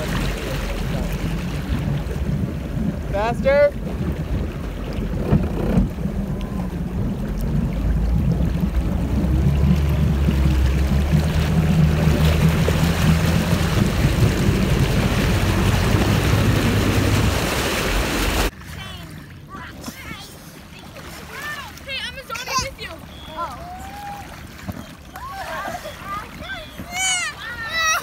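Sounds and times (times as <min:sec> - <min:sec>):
motorboat engine running: 0:00.0 - 0:28.0
water rushing past: 0:00.0 - 0:28.0.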